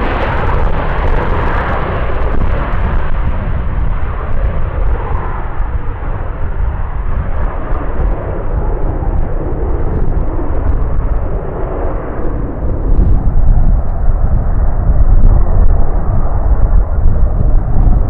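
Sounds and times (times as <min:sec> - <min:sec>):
jet engine deep rumble: 0:00.0 - 0:18.0.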